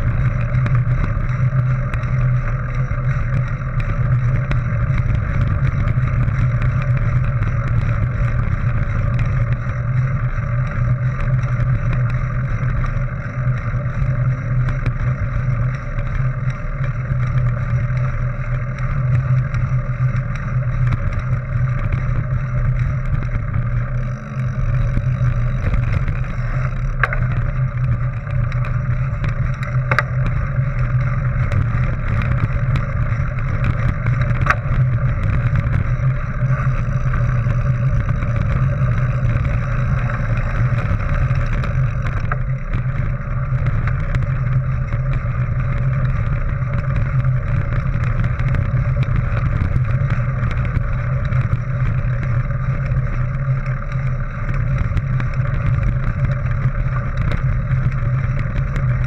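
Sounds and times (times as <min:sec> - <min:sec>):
bike tyres rumbling on gravel: 0:00.0 - 0:59.0
sharp ticks: 0:00.0 - 0:59.0.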